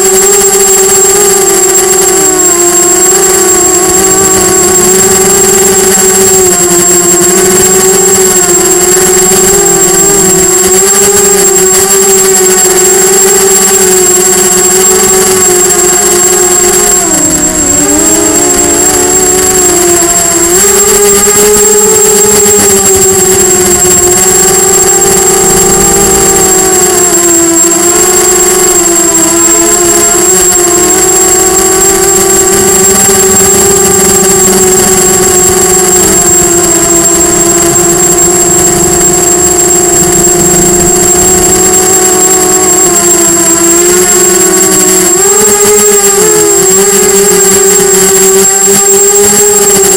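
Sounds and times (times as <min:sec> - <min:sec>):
quadcopter motors whining: 0:00.0 - 0:49.9
steady high-pitched tone: 0:00.0 - 0:49.9
thin high-pitched whine: 0:00.0 - 0:49.9.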